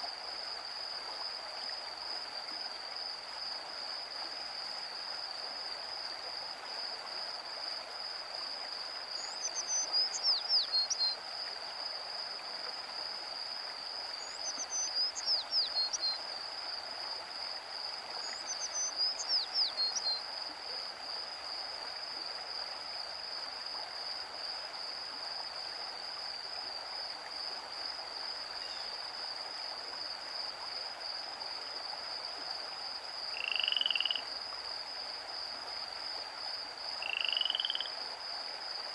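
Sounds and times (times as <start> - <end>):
creek running: 0.0 - 38.9.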